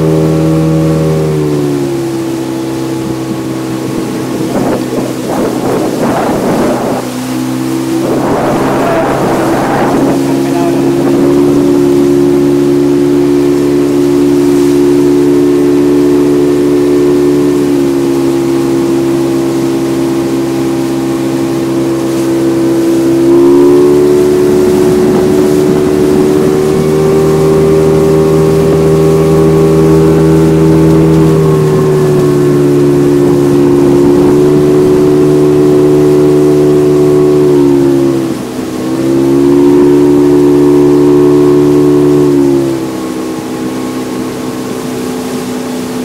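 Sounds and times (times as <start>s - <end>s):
motorboat engine droning: 0.0s - 46.0s.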